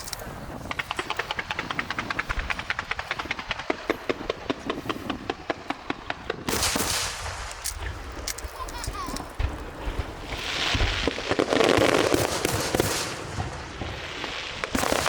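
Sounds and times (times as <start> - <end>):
fireworks crackling pops: 0.0 - 15.0.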